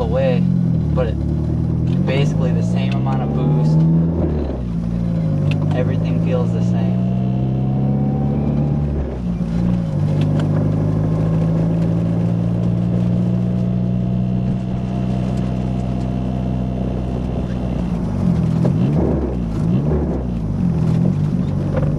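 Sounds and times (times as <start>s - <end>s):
car engine running: 0.0s - 21.9s.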